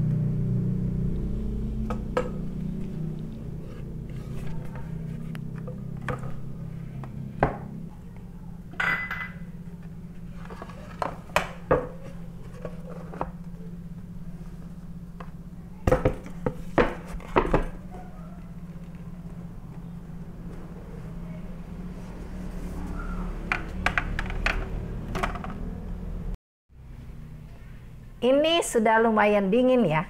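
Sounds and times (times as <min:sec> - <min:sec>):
steady low hum: 0:00.0 - 0:28.2.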